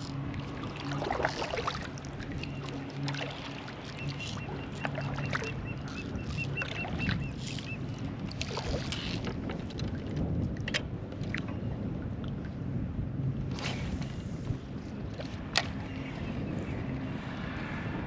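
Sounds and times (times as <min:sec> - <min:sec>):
water lapping against kayak hull: 0:00.0 - 0:16.7.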